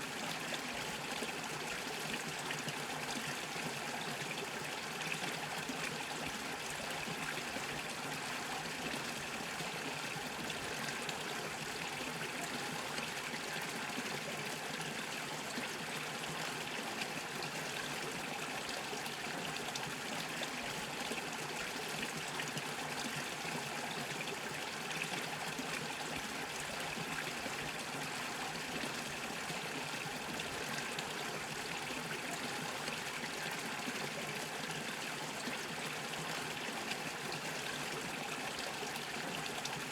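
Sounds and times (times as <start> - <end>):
brook bubbling over stones: 0.1 - 39.9.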